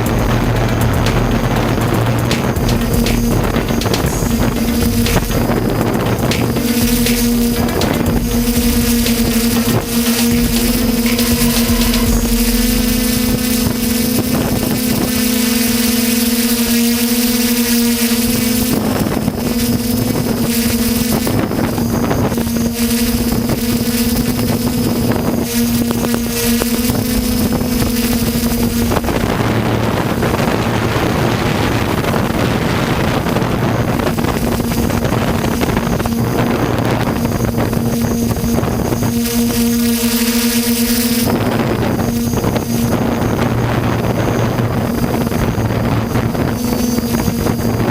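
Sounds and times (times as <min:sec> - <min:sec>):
wind buffeting microphone: 0:00.0 - 0:40.4, 0:41.0 - 0:47.9
drone motors and propellers droning: 0:00.0 - 0:47.9.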